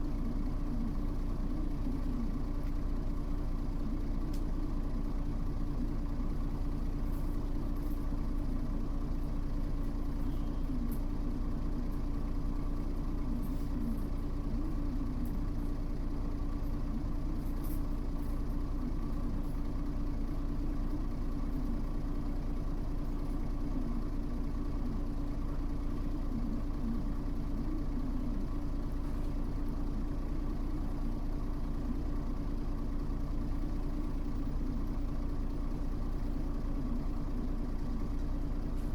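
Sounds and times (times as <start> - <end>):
bus engine running steadily: 0.0 - 38.9.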